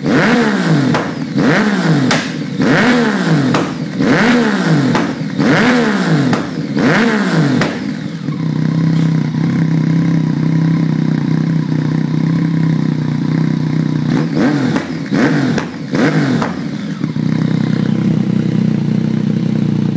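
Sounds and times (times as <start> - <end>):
motorcycle engine revving and idling: 0.0 - 19.9.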